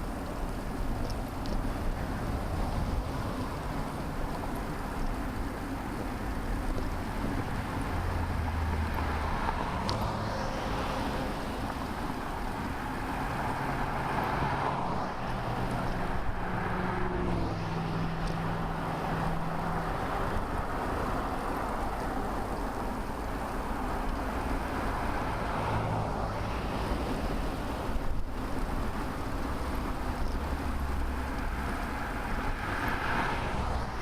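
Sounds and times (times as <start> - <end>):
traffic passing on a road: 0.0 - 34.0.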